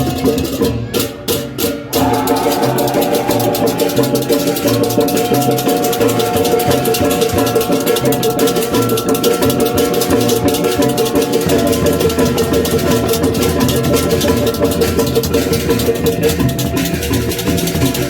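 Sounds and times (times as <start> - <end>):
small cymbals clashing: 2.0 - 18.0.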